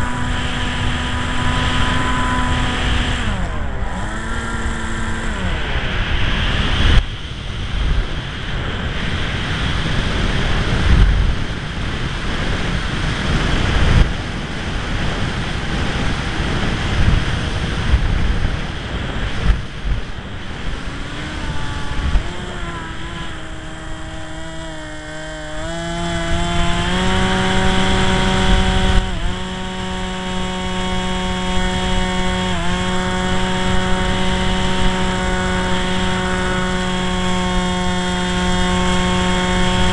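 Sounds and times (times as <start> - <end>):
model plane motor whine: 0.0 - 39.9
wind buffeting microphone: 0.0 - 39.9.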